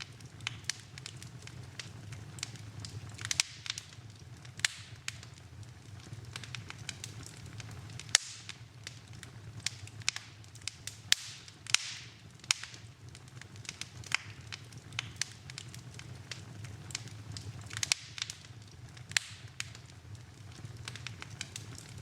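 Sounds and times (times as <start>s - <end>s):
fire hissing: 0.0s - 22.0s
wood fire crackling and popping: 0.0s - 22.0s.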